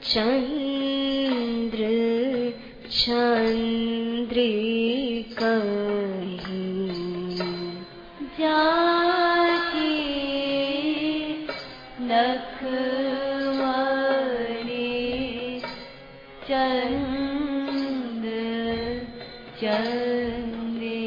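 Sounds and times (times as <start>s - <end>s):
devotional music with sliding notes: 0.0s - 21.0s.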